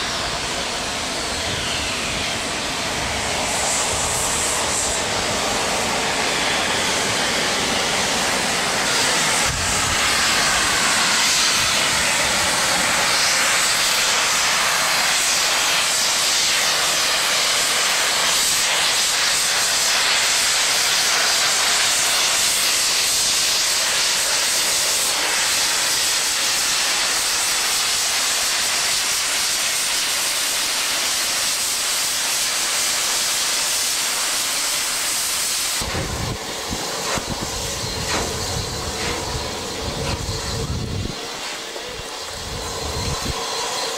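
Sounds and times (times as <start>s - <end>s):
diesel locomotive engine running: 0.0s - 29.3s, 30.4s - 43.9s
loud steady steam hiss: 0.0s - 43.9s.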